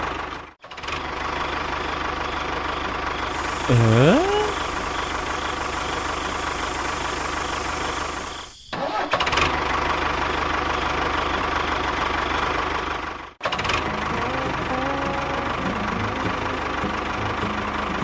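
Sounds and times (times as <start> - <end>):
engine chugging: 0.0 - 18.0.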